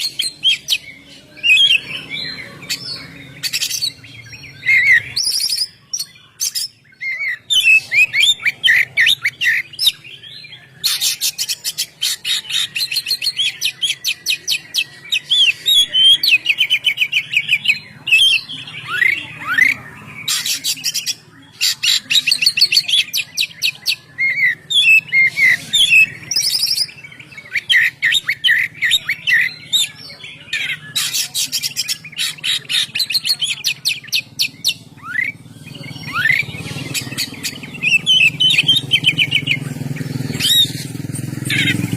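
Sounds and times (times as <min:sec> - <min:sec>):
bird song with trills and whistles: 0:00.0 - 0:41.9.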